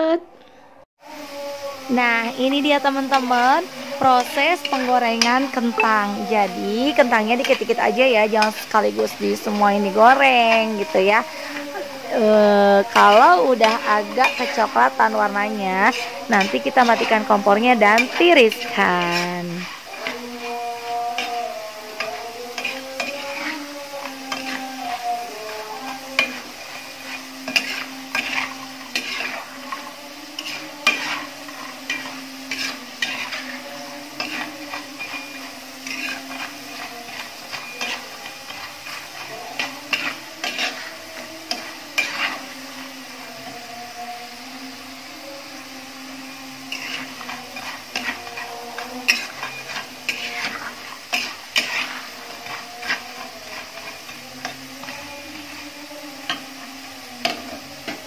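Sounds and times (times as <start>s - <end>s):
oil sizzling: 1.0s - 58.0s
metal spatula scraping wok: 1.1s - 58.0s.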